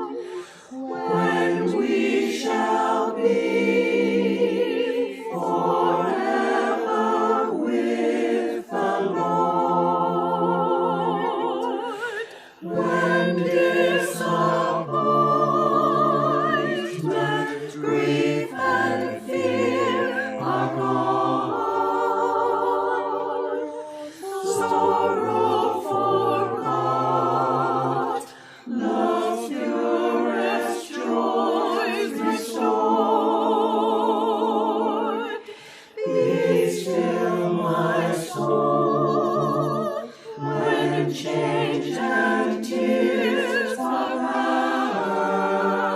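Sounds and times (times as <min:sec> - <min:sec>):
choir singing unaccompanied: 0:00.0 - 0:45.9.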